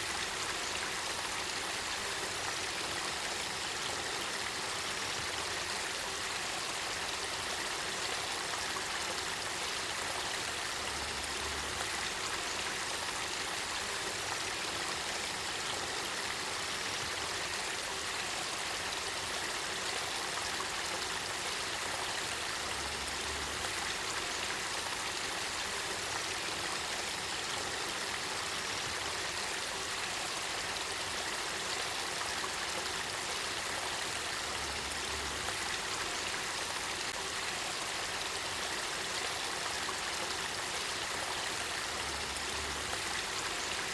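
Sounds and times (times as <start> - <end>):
stream water flowing: 0.0 - 43.9.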